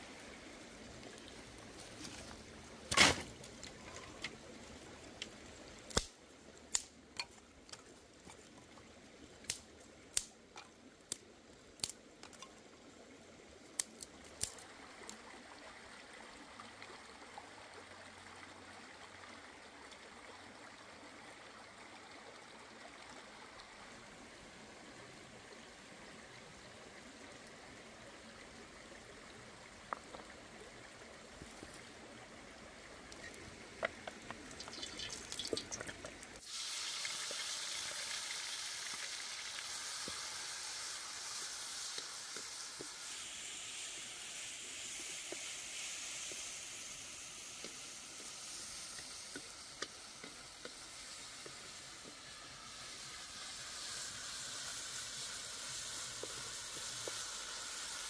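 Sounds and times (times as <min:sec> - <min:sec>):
stream water running: 0:00.0 - 0:58.0.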